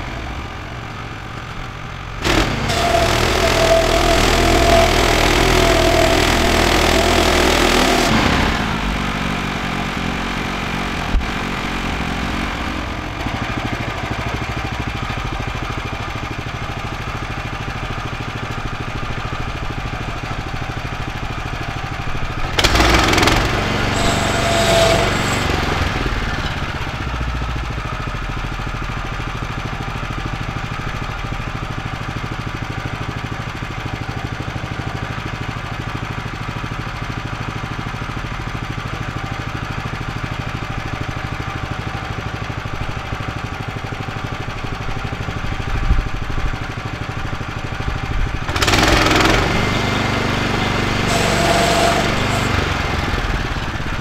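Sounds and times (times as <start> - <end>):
small petrol engine idling: 0.0 - 54.0.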